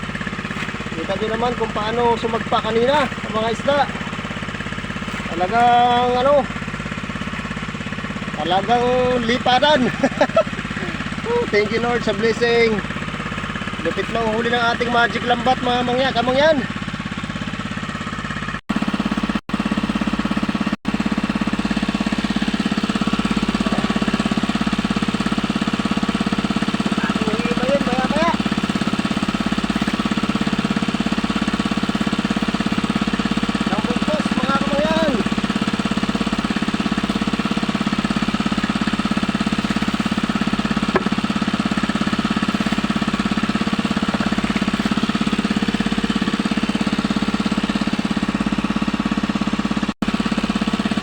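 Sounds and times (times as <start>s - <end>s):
small engine chugging: 0.0s - 51.0s.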